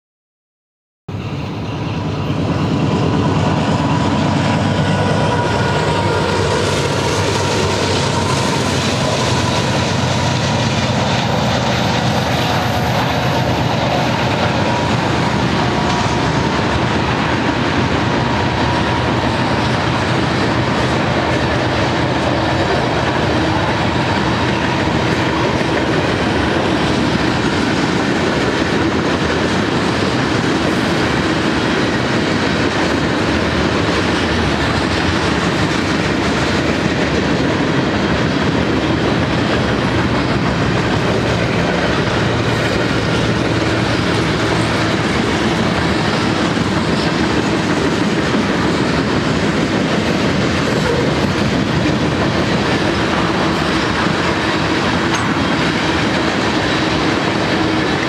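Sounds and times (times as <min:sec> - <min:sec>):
freight train rumbling: 0:01.1 - 0:58.0.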